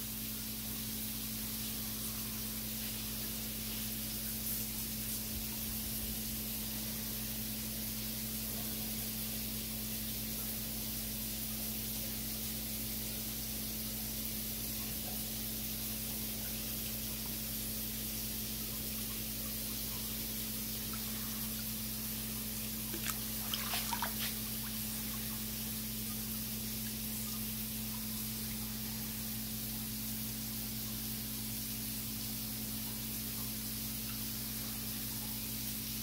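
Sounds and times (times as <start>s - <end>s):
low electrical hum: 0.0s - 36.0s
steady hiss: 0.0s - 36.0s.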